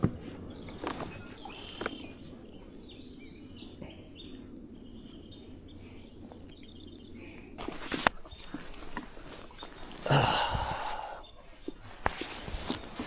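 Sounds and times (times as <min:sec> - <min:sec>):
low background rush: 0:00.0 - 0:13.0
small birds chirping: 0:00.0 - 0:13.0.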